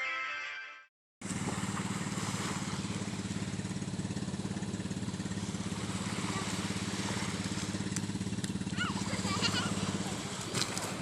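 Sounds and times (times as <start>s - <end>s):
small engine running: 1.2s - 11.0s.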